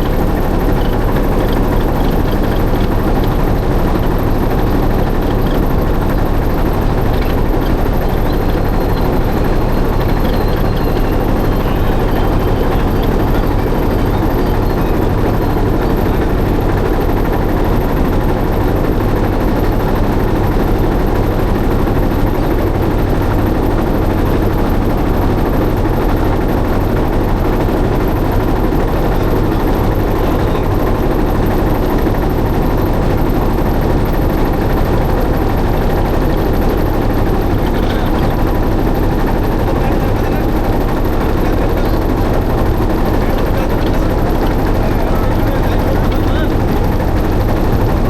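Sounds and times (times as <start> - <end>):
motorboat engine chugging: 0.0 - 48.0.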